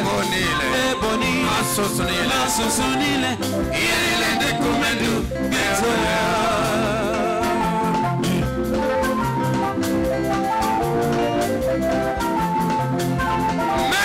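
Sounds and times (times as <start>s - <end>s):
drums steady beat: 0.0s - 14.0s
live gospel band music: 0.0s - 14.0s.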